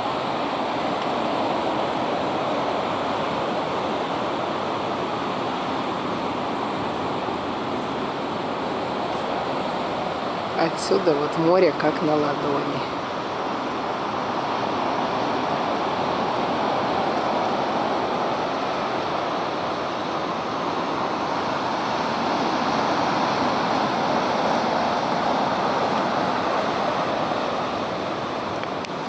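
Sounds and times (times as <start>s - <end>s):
surf washing onto shore: 0.0s - 29.0s.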